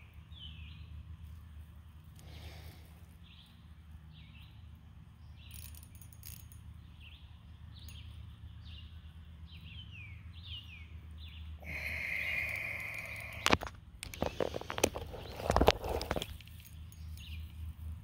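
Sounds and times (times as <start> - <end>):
bird chirping: 0.0 - 1.0, 3.2 - 17.8
low steady hum: 0.0 - 18.0.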